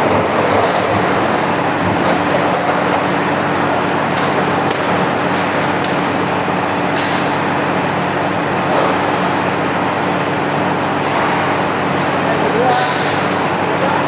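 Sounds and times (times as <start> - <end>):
punching machine humming: 0.0 - 14.0.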